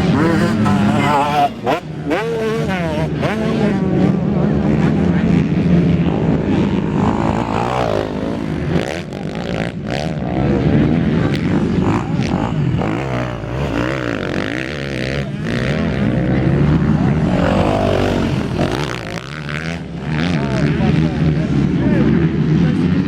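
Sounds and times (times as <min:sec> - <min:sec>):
motorcycle engines revving: 0:00.0 - 0:20.8.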